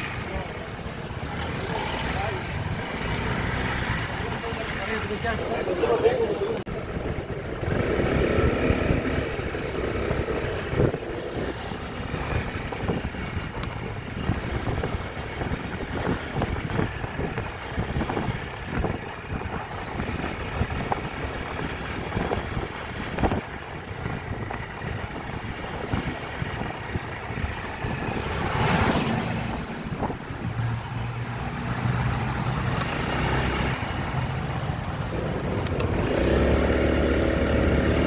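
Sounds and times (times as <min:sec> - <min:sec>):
motorbike engine: 0:00.0 - 0:05.3, 0:06.8 - 0:38.0
wind buffeting microphone: 0:06.6 - 0:38.0.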